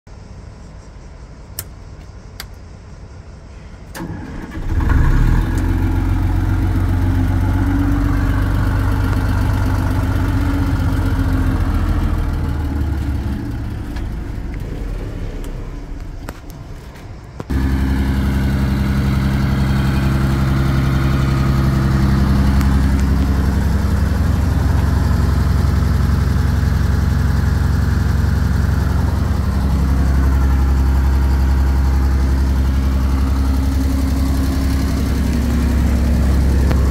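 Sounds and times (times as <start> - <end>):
diesel generator engine running: 0.8 - 36.9.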